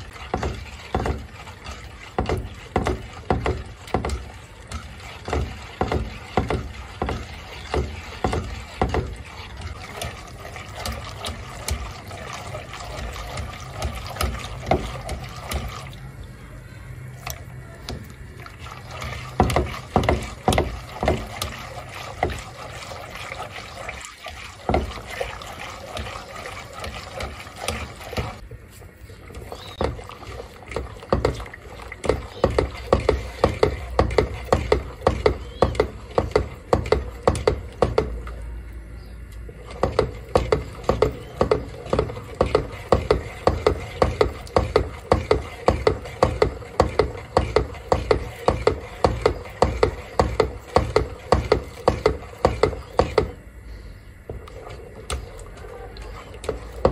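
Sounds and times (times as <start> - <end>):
whisk tapping against pot: 0.0 - 16.0, 17.2 - 28.4, 29.3 - 38.4, 39.5 - 53.4, 54.3 - 56.9
liquid sloshing: 0.0 - 56.9
low steady hum: 0.0 - 56.9.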